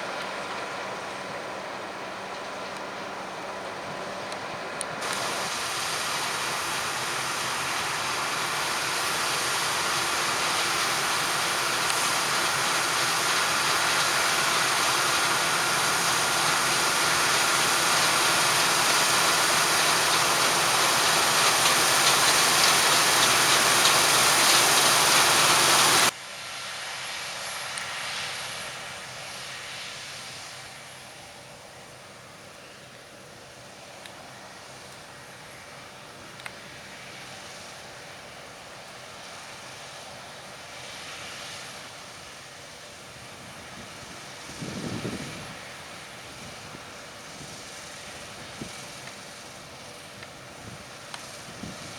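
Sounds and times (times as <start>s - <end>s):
harvest machinery running: 0.0s - 26.2s, 33.6s - 51.9s.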